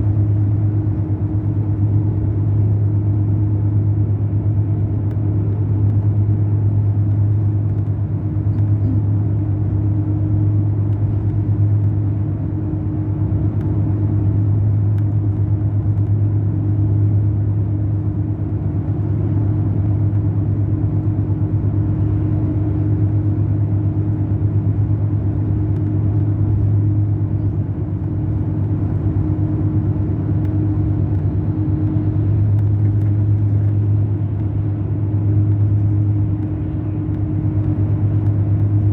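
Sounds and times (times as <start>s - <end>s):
diesel coach engine humming: 0.0s - 38.9s.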